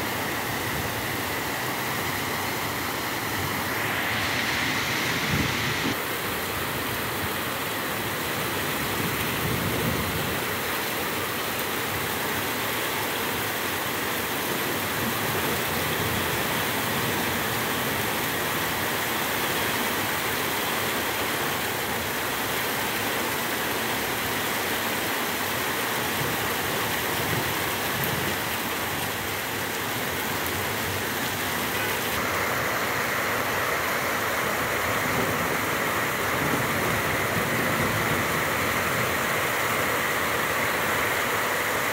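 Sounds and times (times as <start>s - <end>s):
heavy rain hiss: 0.0s - 41.9s.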